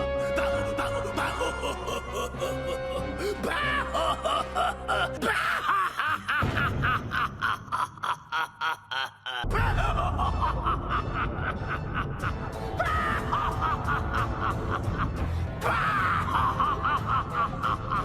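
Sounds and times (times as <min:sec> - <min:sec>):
background music: 0:00.0 - 0:18.0
man laughing: 0:00.0 - 0:18.0.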